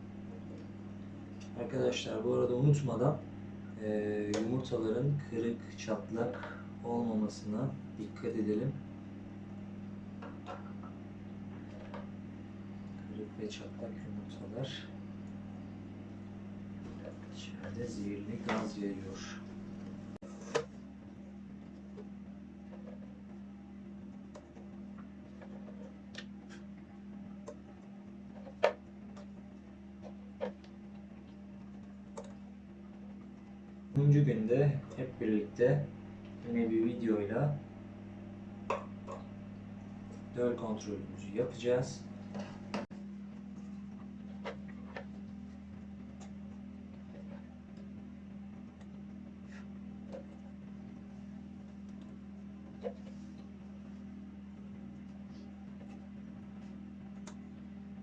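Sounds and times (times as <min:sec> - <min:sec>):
incubator hum: 0:00.0 - 0:58.0.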